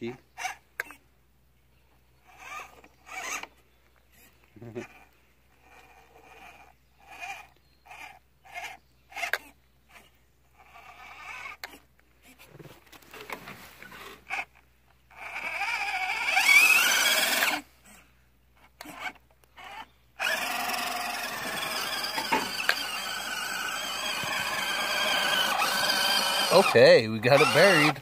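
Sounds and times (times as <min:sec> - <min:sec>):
toy truck motor whining: 0:00.4 - 0:01.0, 0:02.2 - 0:03.6, 0:04.2 - 0:11.8, 0:13.9 - 0:18.0, 0:18.6 - 0:28.0.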